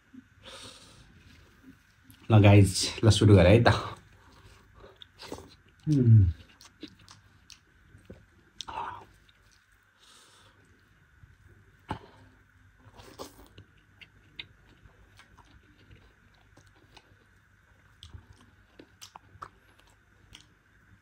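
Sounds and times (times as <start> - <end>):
faint steady hum: 0.0 - 21.0
soft chewing: 1.0 - 2.3, 3.7 - 21.0.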